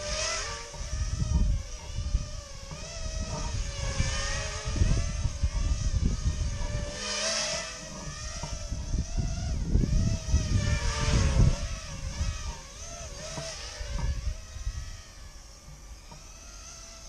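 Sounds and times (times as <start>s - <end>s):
wind buffeting microphone: 0.0s - 16.3s
drone motors whining: 0.0s - 17.0s.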